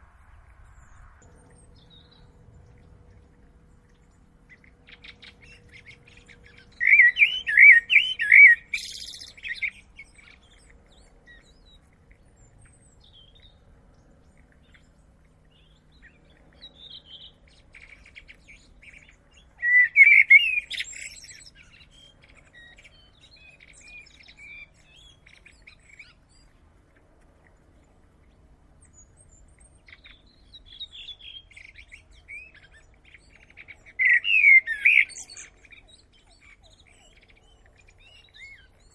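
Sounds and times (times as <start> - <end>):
blackbird singing: 0.7 - 26.6, 27.5 - 38.9.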